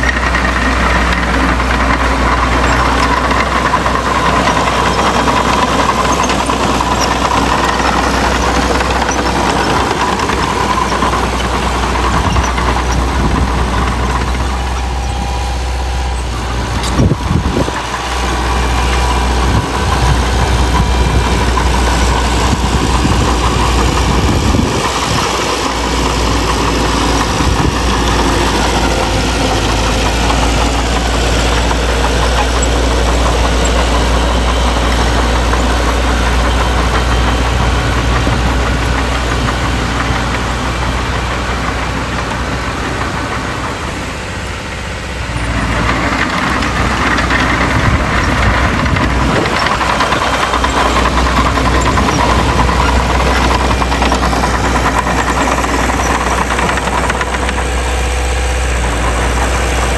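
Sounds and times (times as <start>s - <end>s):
diesel engines clattering: 0.0s - 59.9s
high-pitched rattle: 0.0s - 59.9s.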